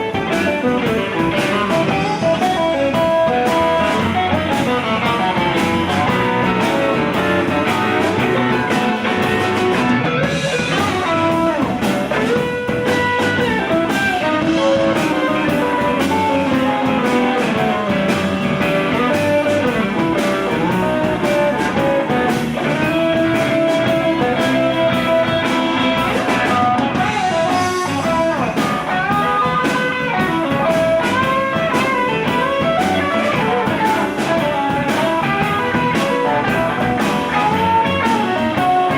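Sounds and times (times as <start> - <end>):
blues band playing: 0.0 - 38.9
electric guitar lead lines: 0.0 - 38.9.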